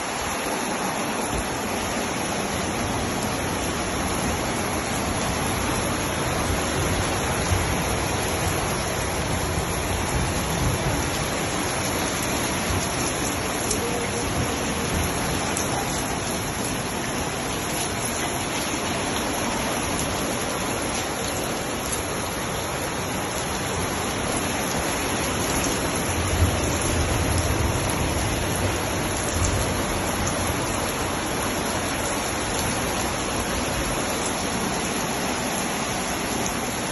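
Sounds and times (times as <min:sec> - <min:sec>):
rushing water: 0:00.0 - 0:36.9.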